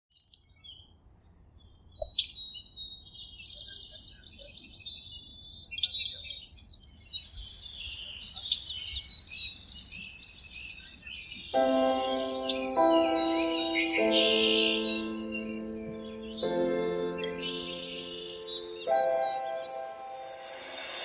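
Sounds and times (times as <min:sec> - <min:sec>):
songbirds chirping and trilling: 0:00.2 - 0:21.0.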